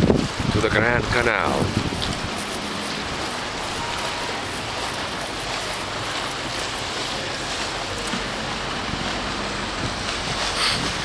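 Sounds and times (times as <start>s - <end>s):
choppy water washing: 0.0s - 11.0s
wind: 0.0s - 11.0s.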